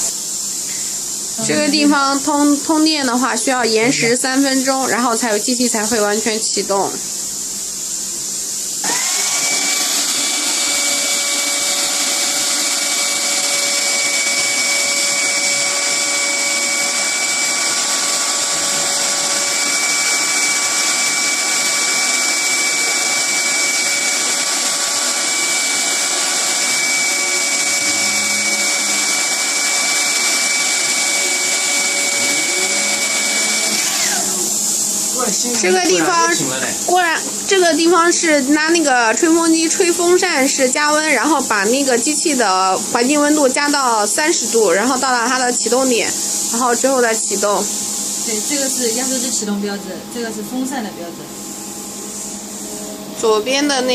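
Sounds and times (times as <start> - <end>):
hair dryer blowing: 0.0 - 7.2, 8.0 - 53.2.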